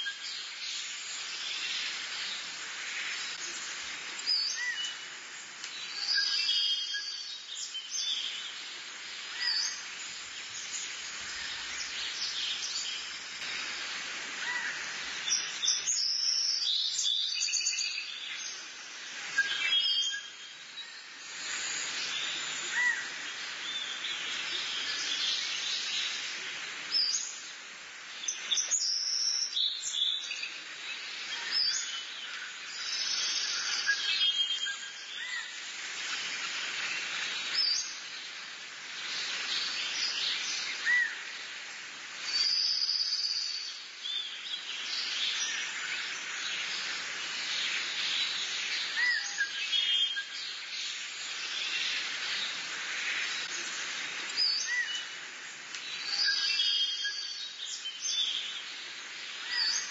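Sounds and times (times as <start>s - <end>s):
birds chirping and trilling: 0.0s - 13.8s, 14.4s - 38.4s, 42.2s - 59.9s
steady background hiss: 0.0s - 59.9s.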